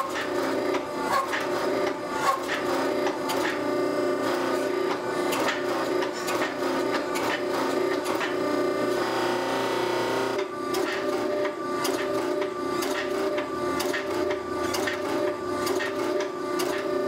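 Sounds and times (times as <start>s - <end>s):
forging press humming: 0.0s - 17.0s.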